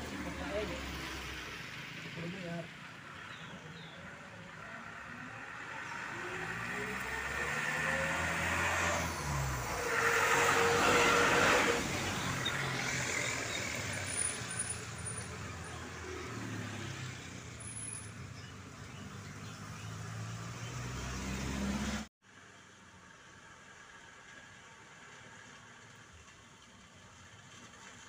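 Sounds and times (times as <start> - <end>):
tyre and road noise: 0.0 - 28.0.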